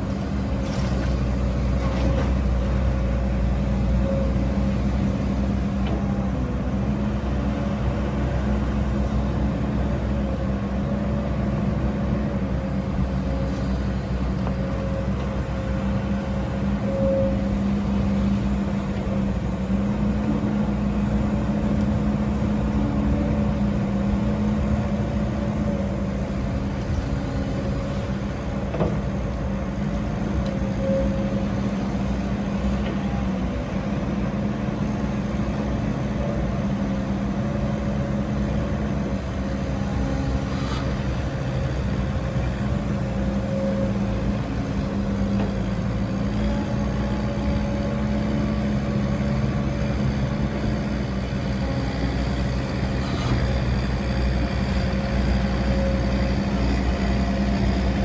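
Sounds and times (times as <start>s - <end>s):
heavy diesel engine drone: 0.0s - 58.0s.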